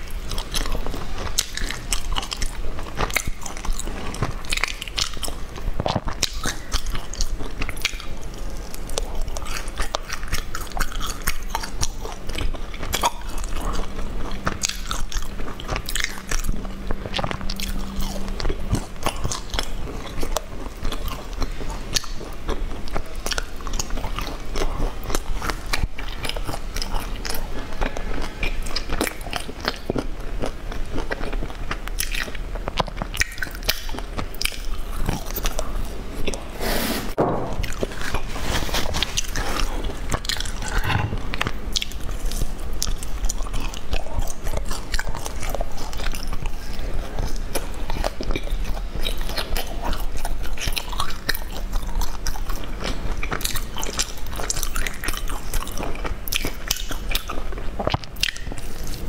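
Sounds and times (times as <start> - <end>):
crunchy pastry chewing: 0.0 - 36.6, 37.6 - 59.0.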